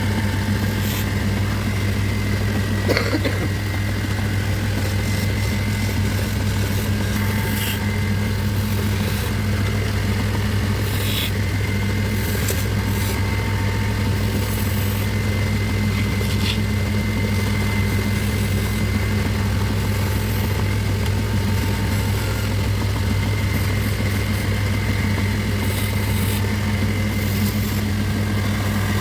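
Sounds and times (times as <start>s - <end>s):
electric motor humming: 0.0s - 29.0s.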